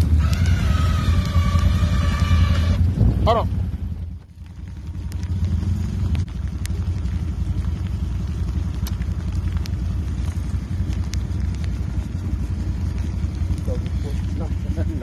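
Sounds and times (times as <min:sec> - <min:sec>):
suv engine droning: 0:00.0 - 0:15.0.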